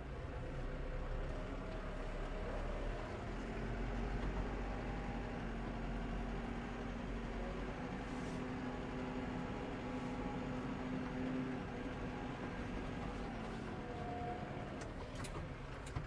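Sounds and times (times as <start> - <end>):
tractor engine from inside cab: 0.0 - 16.0.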